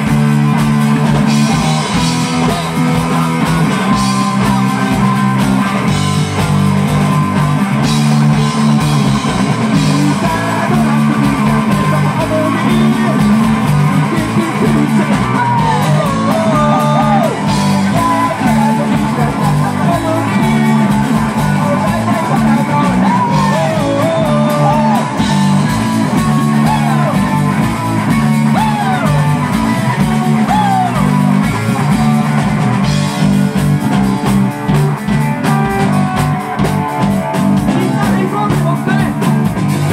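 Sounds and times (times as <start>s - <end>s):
live rock band playing: 0.0s - 39.9s
man singing: 1.0s - 32.0s, 37.3s - 39.9s.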